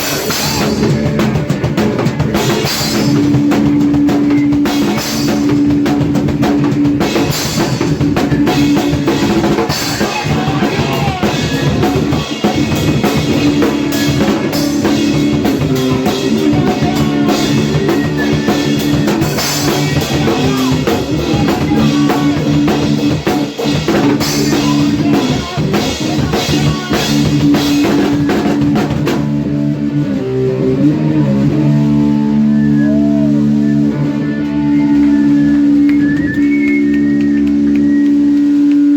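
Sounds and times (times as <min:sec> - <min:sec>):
busy drum-kit beats: 0:00.0 - 0:38.9
electric guitar chords: 0:00.0 - 0:38.9.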